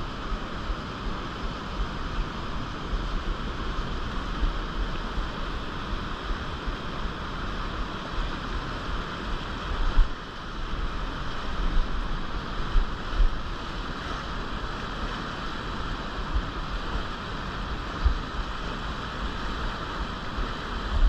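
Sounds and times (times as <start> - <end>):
river whitewater rushing: 0.0 - 21.0
wind on microphone: 0.0 - 21.0.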